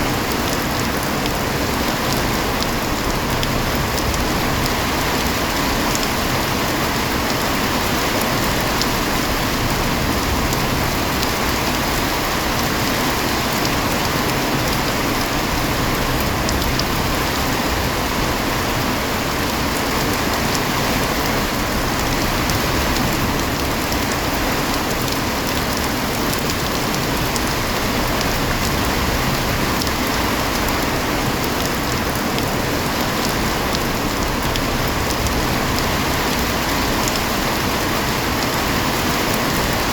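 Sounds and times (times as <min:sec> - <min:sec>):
heavy rain falling: 0:00.0 - 0:39.9
raindrop ticks: 0:00.2 - 0:07.5, 0:08.2 - 0:12.4, 0:13.5 - 0:17.4, 0:19.4 - 0:37.4.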